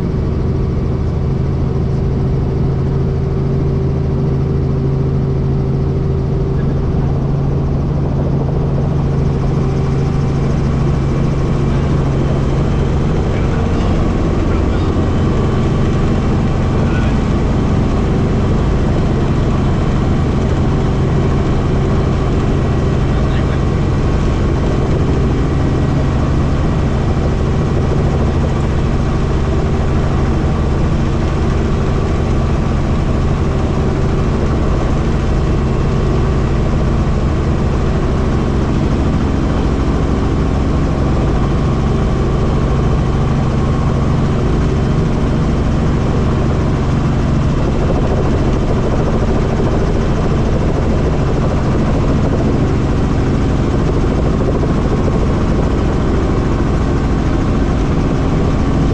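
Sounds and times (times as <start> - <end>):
helicopter rotor and engine: 0.0 - 58.9.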